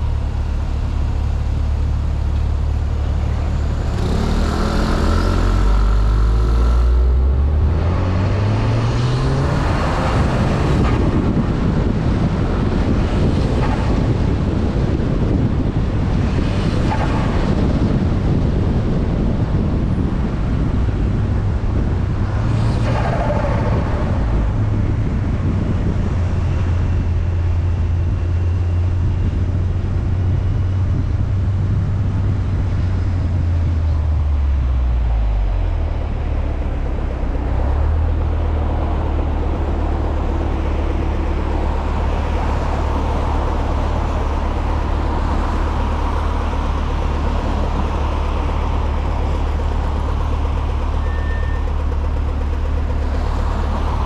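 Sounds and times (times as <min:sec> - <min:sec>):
car engine drone while driving: 0:00.0 - 0:54.0
road noise: 0:00.0 - 0:54.0.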